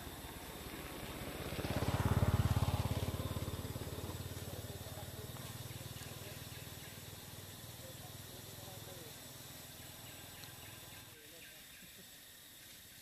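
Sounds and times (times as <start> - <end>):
passing vehicle engine: 0.0 - 11.1.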